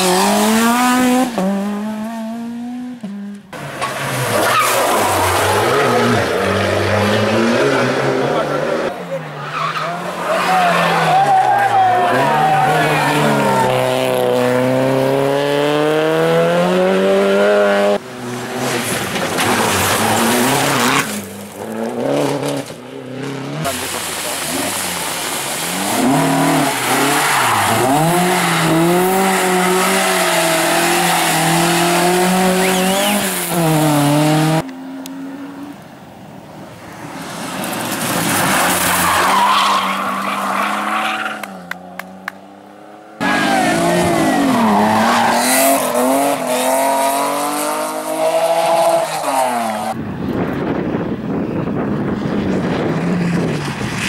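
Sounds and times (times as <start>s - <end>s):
rally car engines revving hard: 0.0s - 35.6s, 37.4s - 50.0s.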